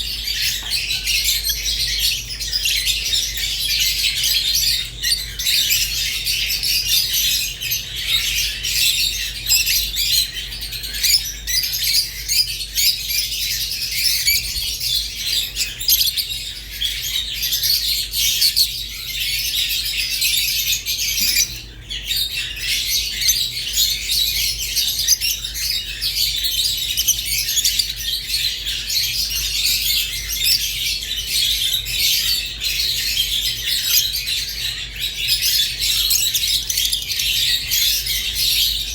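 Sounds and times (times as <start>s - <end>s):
lovebirds chattering and chirping: 0.0s - 38.9s.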